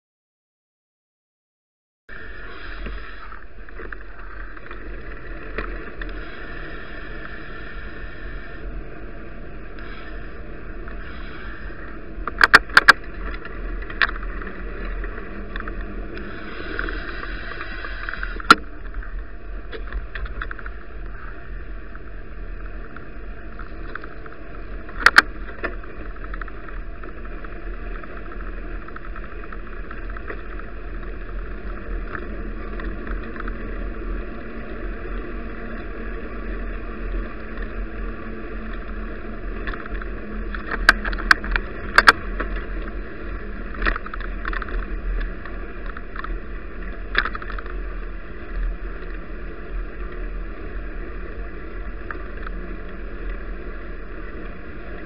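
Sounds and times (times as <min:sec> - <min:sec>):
bicycle riding rumble: 0:02.1 - 0:55.0.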